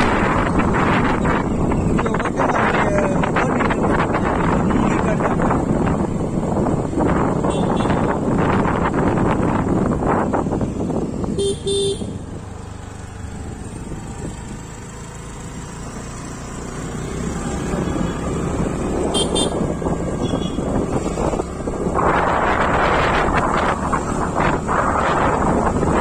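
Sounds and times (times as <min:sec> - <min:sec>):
wind rushing on microphone: 0:00.0 - 0:12.6, 0:13.3 - 0:26.0.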